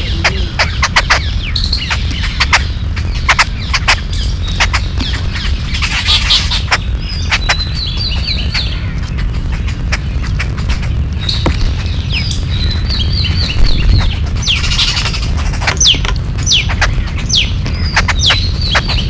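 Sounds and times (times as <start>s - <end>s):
birds chattering: 0.0s - 19.0s
low rumble: 0.0s - 19.0s
rapid bird chirps: 0.0s - 19.0s.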